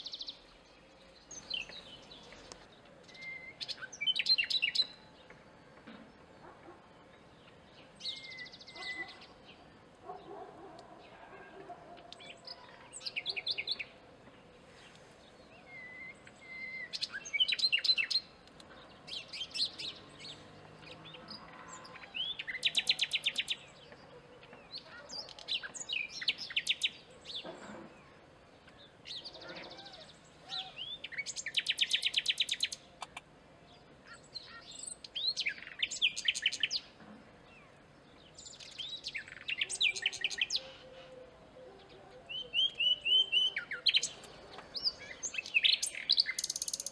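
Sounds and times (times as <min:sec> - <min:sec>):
nightingale singing: 0:00.0 - 0:05.8, 0:06.5 - 0:10.9, 0:15.4 - 0:27.5, 0:28.6 - 0:46.9.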